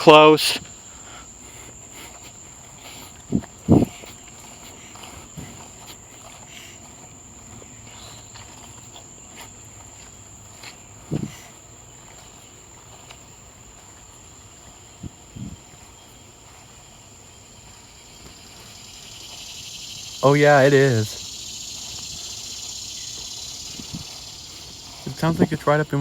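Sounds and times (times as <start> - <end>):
faint insect chirps: 0.0 - 26.0
insect drone: 0.0 - 26.0.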